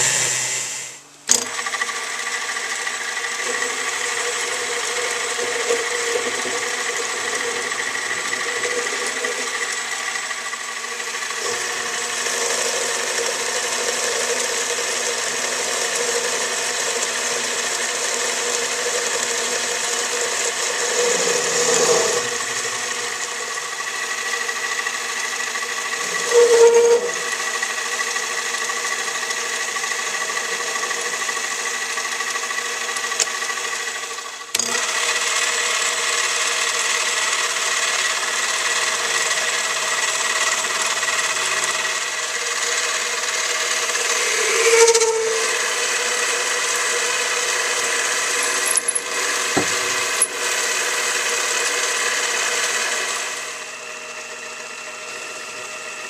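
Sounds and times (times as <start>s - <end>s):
machine tool motor whining: 0.0s - 56.0s.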